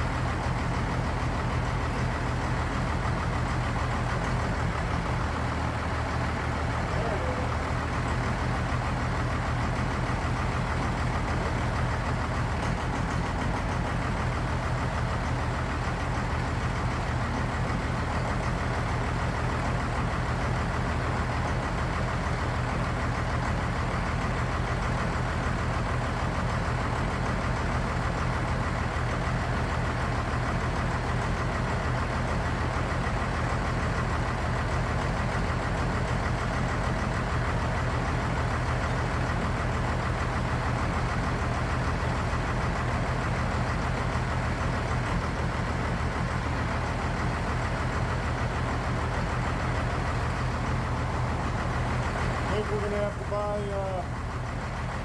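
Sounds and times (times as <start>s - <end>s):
diesel engine idling roughly: 0.0s - 55.0s.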